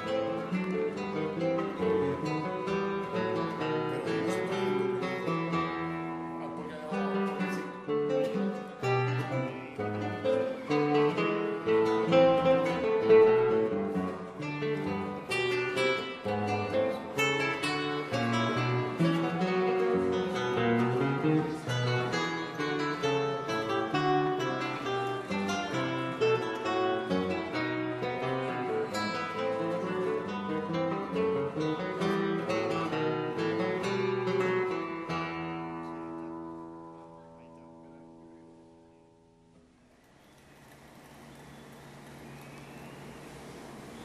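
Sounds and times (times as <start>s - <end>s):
acoustic guitar plucking: 0.0s - 39.5s.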